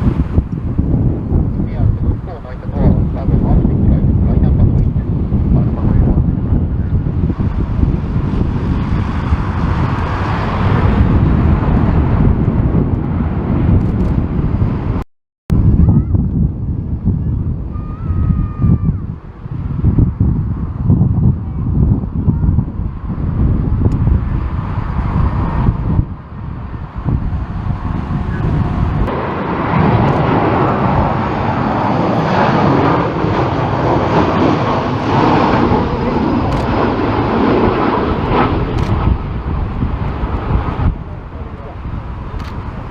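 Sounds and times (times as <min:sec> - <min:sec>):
jet airliner passing: 0:00.0 - 0:42.9
wind buffeting microphone: 0:00.0 - 0:42.9.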